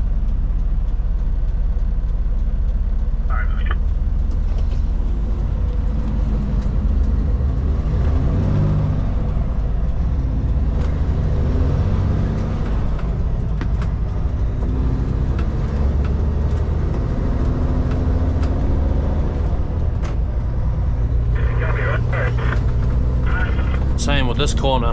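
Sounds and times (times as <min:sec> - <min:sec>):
truck diesel engine running: 0:00.0 - 0:24.9.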